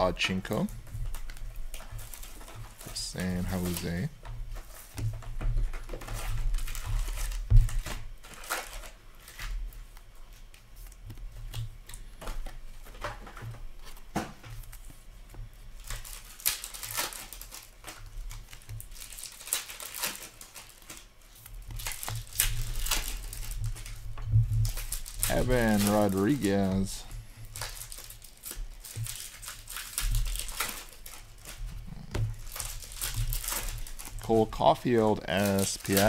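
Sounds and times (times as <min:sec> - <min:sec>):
card wrappers tearing and crinkling: 0:00.0 - 0:36.0
cards being shuffled: 0:00.0 - 0:36.0
low steady hum: 0:00.0 - 0:36.0.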